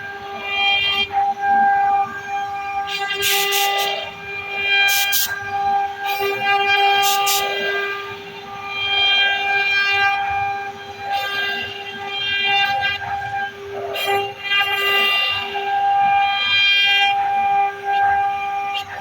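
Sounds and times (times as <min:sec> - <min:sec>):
router spindle high whine: 0:00.0 - 0:19.0.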